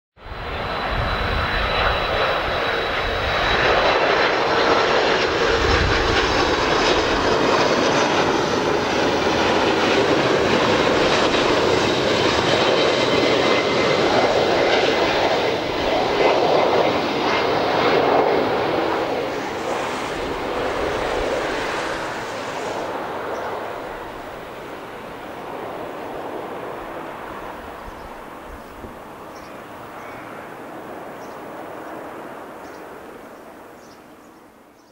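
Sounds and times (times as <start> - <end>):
high engine whine: 0.2 - 30.9
jet engine rush: 0.2 - 34.1.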